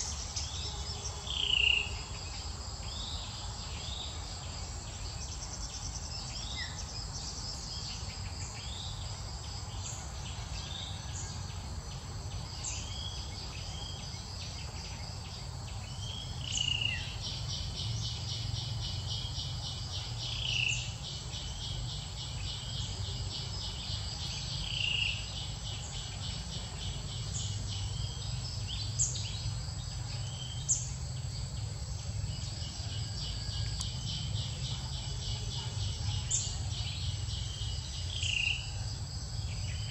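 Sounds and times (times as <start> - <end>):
trilling insect chorus: 0.0 - 39.9.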